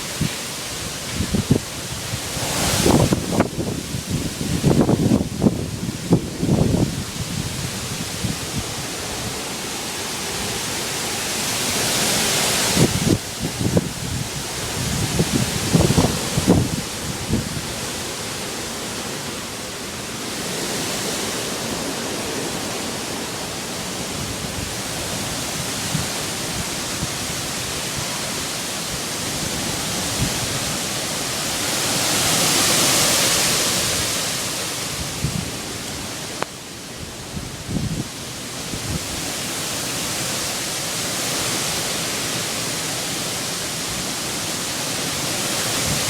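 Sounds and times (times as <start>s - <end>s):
strong wind blowing: 0.0s - 42.5s.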